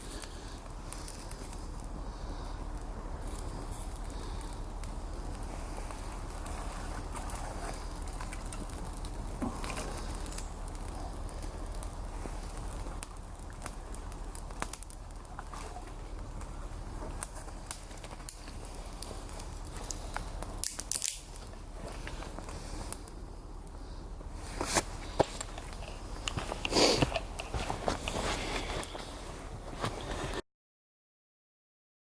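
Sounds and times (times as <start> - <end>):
low background rush: 0.0 - 30.4
wood fire crackling: 0.0 - 30.4.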